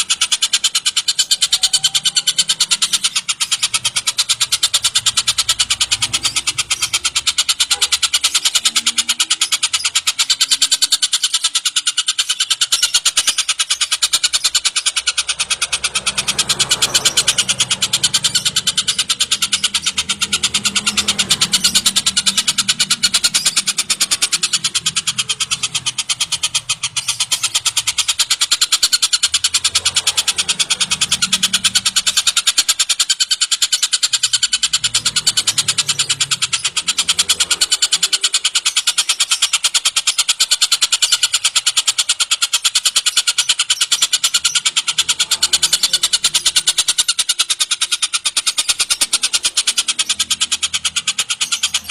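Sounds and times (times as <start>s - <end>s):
kingfisher calling: 0.0s - 51.9s.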